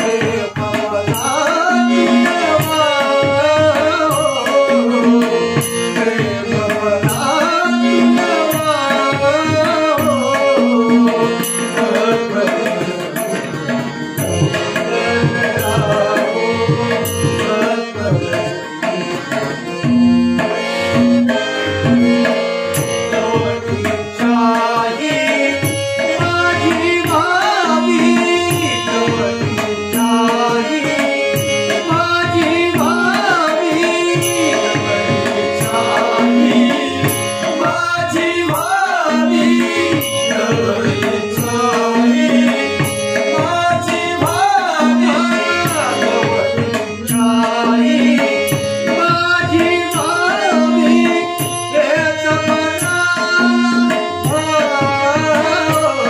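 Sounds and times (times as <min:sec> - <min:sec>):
harmonium chords: 0:00.0 - 0:56.0
man singing: 0:00.0 - 0:56.0
tabla rhythm: 0:00.0 - 0:56.0.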